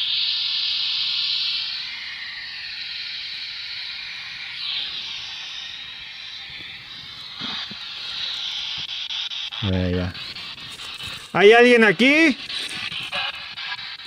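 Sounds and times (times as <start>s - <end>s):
high-pitched static hiss: 0.0s - 14.0s.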